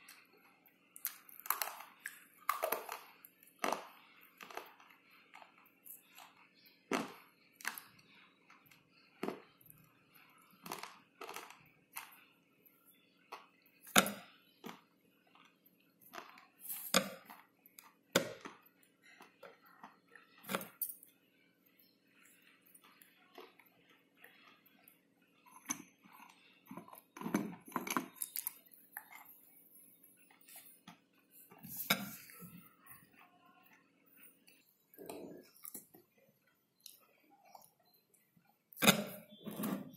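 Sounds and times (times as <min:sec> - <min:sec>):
crackling chewing: 0:00.0 - 0:39.9.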